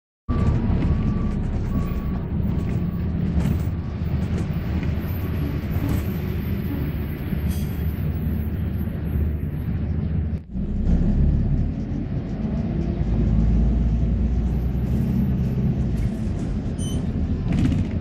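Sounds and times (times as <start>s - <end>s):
bus engine and road rumble: 0.3s - 18.0s.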